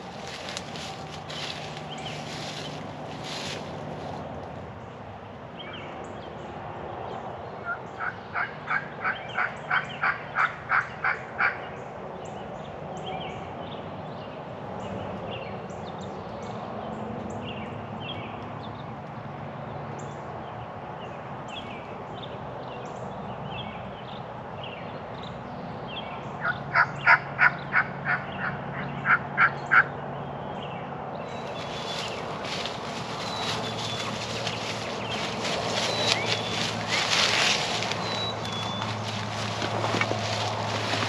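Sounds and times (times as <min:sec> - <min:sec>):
songbirds chirping faintly: 0:00.0 - 0:41.0.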